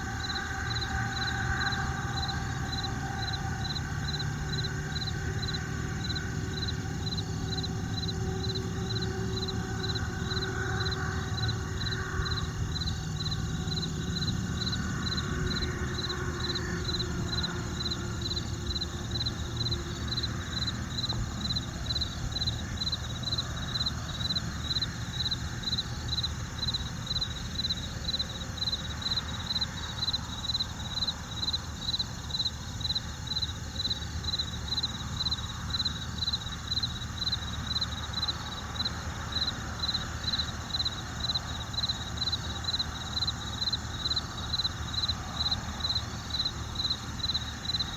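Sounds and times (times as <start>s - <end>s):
low background rumble: 0.0s - 38.9s
insect chirping: 0.0s - 47.9s.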